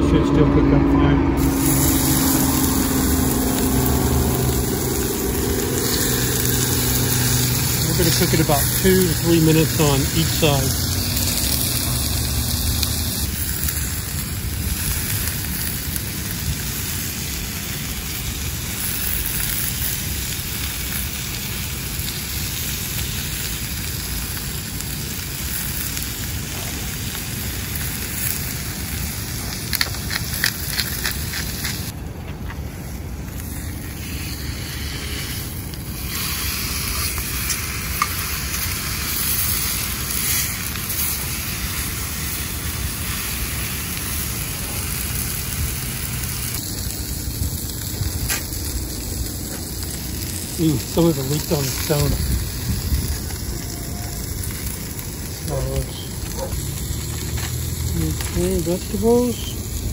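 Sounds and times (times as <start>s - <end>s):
steaks sizzling in skillet: 1.4s - 32.0s, 32.8s - 59.9s.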